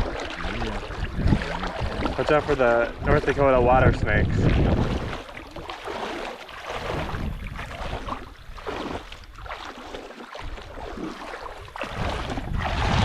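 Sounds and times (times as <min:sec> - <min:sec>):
wind buffeting microphone: 0:00.0 - 0:09.5, 0:10.4 - 0:13.0
water splashing around wading legs: 0:00.0 - 0:13.0.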